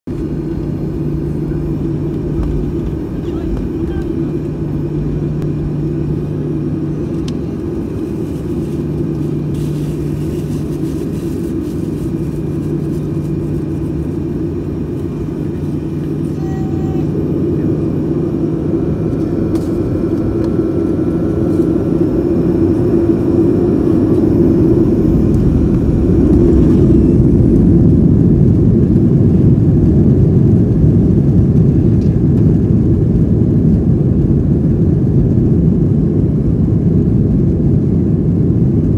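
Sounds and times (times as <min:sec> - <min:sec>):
jet engines rumbling: 0:00.1 - 0:38.9.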